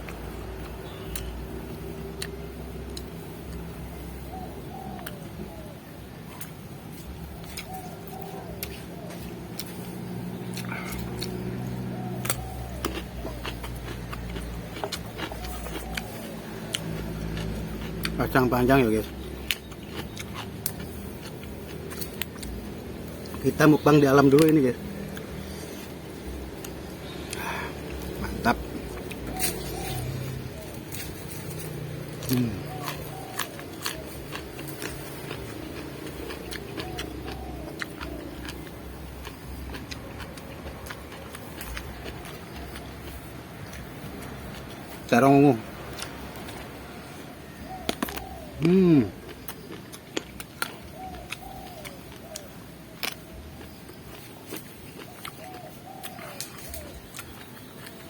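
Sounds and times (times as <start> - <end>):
chewing crisp vegetables: 0.0 - 58.0
mouth clicks: 7.4 - 46.8, 47.6 - 58.0.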